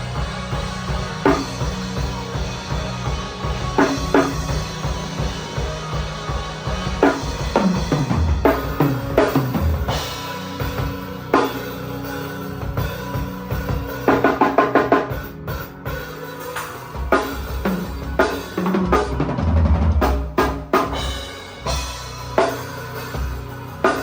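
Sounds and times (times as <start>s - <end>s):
drum kit playing: 0.0s - 24.0s.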